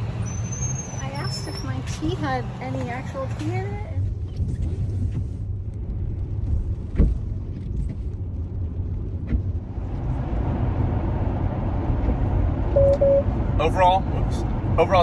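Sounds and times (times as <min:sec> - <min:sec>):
steady low rumble: 0:00.8 - 0:15.0.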